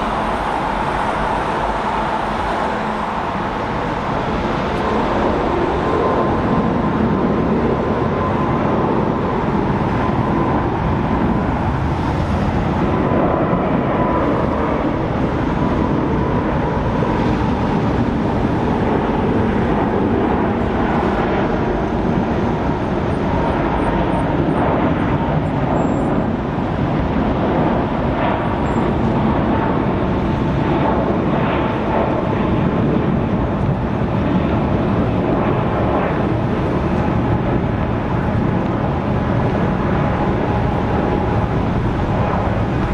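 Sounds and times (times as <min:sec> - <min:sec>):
jet airliner engines roaring: 0:00.0 - 0:42.9.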